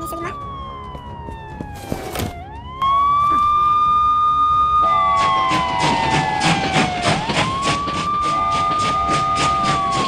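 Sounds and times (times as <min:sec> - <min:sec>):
ambulance siren wailing: 0:00.0 - 0:10.0.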